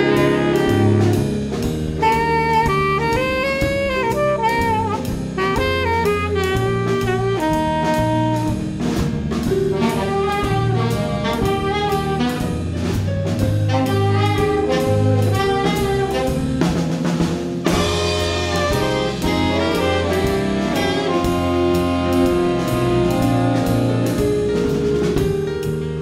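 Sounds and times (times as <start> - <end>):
drum kit: 0.0 - 26.0
electric bass: 0.0 - 26.0
saxophone section playing jazz: 0.0 - 26.0.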